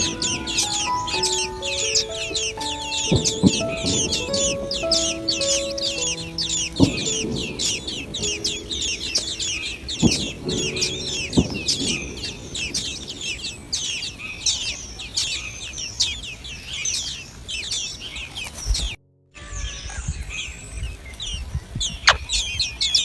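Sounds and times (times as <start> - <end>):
nestling birds chirping: 0.0 - 23.0.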